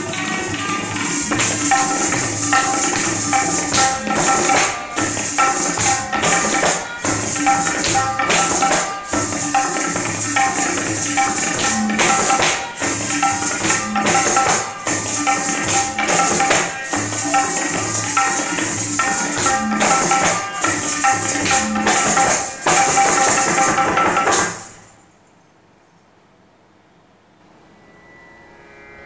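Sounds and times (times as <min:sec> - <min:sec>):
ankle bells jingling: 0:00.0 - 0:24.9
tabla strokes: 0:00.0 - 0:25.0
faint room hiss: 0:00.0 - 0:29.0.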